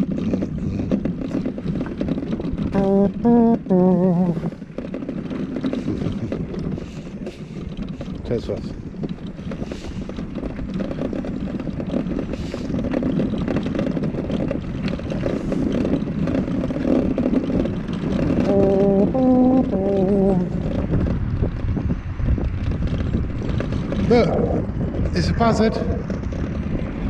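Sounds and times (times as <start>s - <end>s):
mobility scooter rattling: 0.0s - 27.0s.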